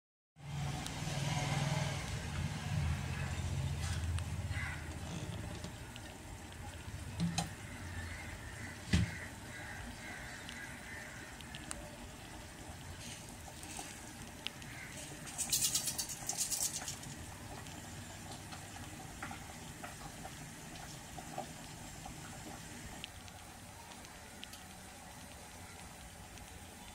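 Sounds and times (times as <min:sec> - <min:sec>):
seeds crackling and popping: 0:00.4 - 0:26.9
seeds sizzling in hot oil: 0:03.2 - 0:26.9.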